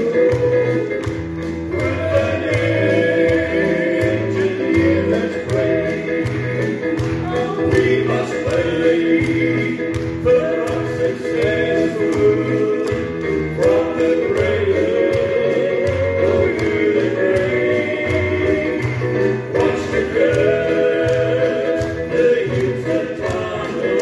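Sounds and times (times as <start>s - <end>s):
gospel singing in harmony: 0.0s - 24.0s
instrumental backing with beat: 0.0s - 24.0s.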